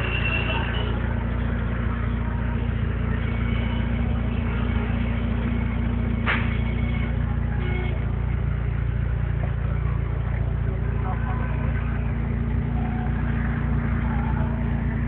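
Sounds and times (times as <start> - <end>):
deep bass from car subwoofers: 0.0 - 15.0.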